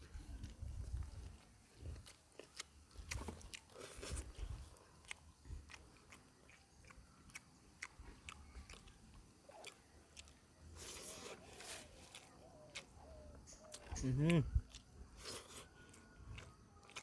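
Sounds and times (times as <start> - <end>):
mouth chewing wet crunches: 0.0 - 17.0.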